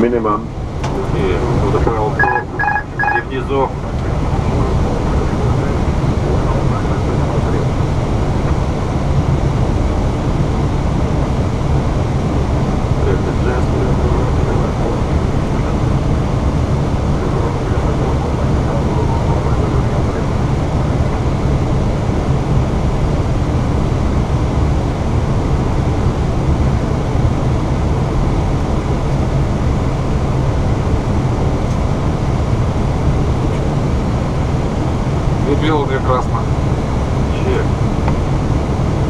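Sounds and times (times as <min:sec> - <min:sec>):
aircraft cockpit rushing noise: 0:00.0 - 0:39.0.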